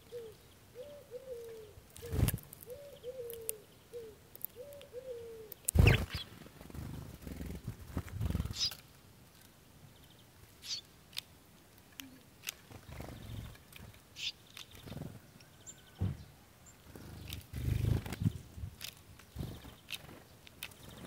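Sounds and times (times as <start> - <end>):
sparrows chirping: 0.0 - 7.6, 8.2 - 11.0, 12.0 - 21.0.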